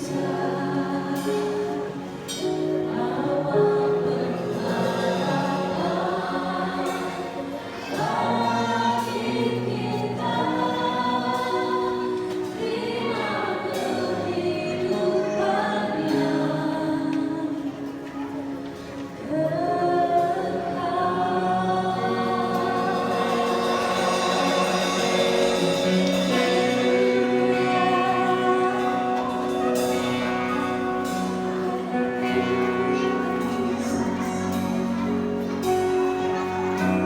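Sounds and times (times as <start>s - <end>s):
choir singing in harmony: 0.0s - 37.0s.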